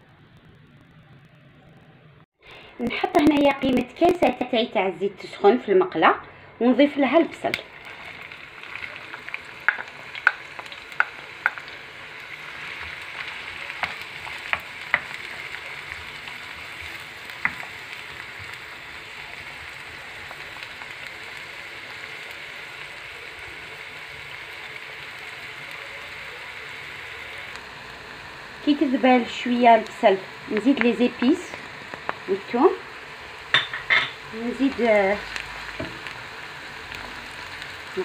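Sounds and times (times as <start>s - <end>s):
onion sizzling in oil: 2.5s - 38.0s.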